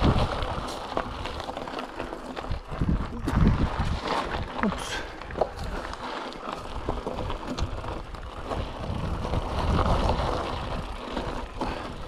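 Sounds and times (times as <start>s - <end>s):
bike rattling over bumps: 0.0s - 12.0s
tyres crunching over gravel: 0.0s - 12.0s.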